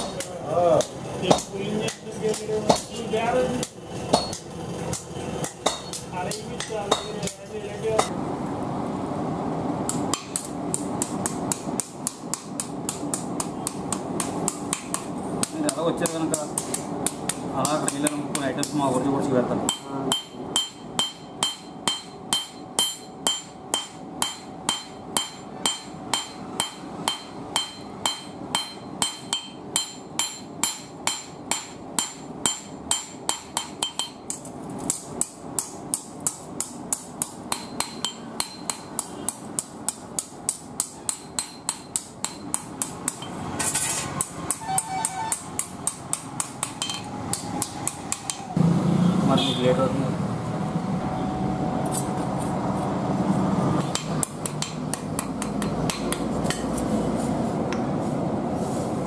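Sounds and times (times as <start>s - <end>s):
hammer striking steel on anvil: 0.0s - 3.0s, 3.6s - 8.1s, 9.9s - 19.0s, 19.6s - 48.5s, 53.8s - 56.8s.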